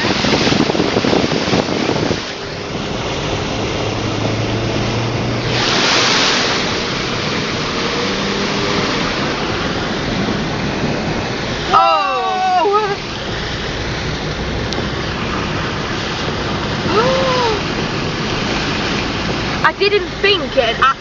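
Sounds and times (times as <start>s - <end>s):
water splashing against car: 0.0s - 21.0s.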